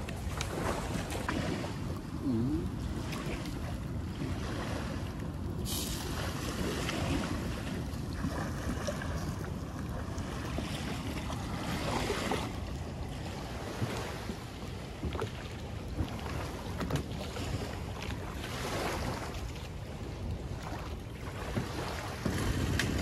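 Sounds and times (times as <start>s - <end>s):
rushing water: 0.0s - 23.0s
wind buffeting microphone: 0.0s - 23.0s.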